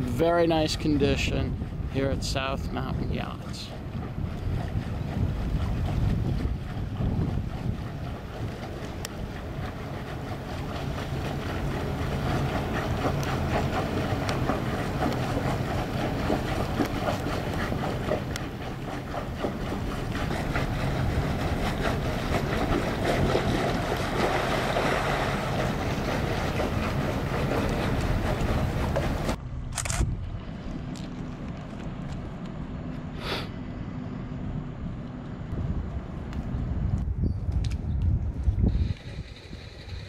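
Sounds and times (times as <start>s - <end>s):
wind on microphone: 0.0s - 30.9s, 34.8s - 40.0s
boat diesel engines running: 0.0s - 37.0s, 38.7s - 40.0s
water noise: 0.0s - 40.0s.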